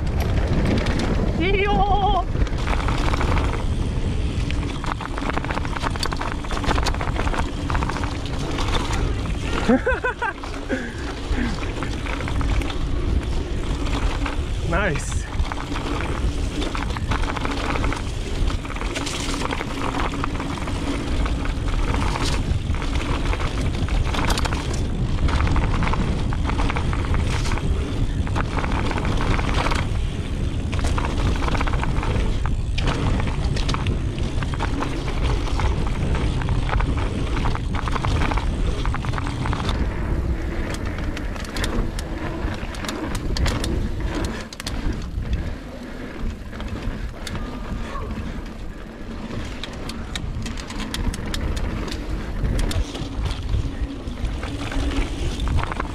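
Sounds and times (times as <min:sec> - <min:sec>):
bike rattling over bumps: 0:00.0 - 0:55.9
tyres rushing on dirt: 0:00.0 - 0:55.9
wind rumble on microphone: 0:00.0 - 0:55.9.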